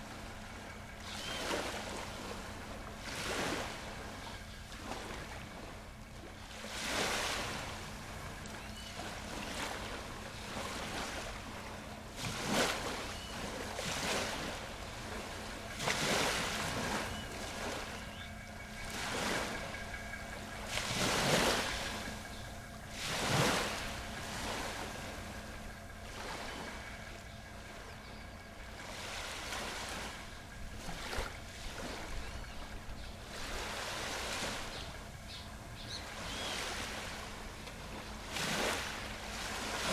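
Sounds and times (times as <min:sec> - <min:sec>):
faint steady hum: 0:00.0 - 0:39.9
sea waves breaking: 0:00.0 - 0:39.9.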